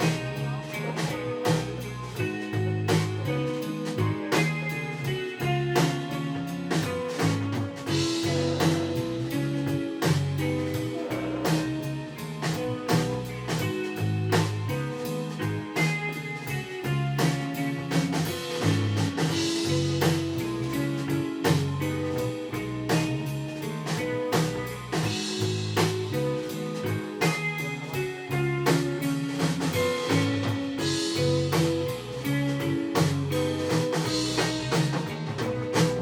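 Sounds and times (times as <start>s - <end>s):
bass notes: 0.0s - 36.0s
drum kit steady beat: 0.0s - 36.0s
electric guitar: 0.0s - 36.0s.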